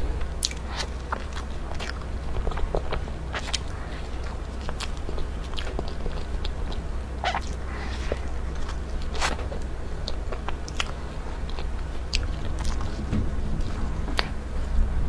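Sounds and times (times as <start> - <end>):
chewing soft cake: 0.0 - 14.9
steady low hum: 0.0 - 15.0.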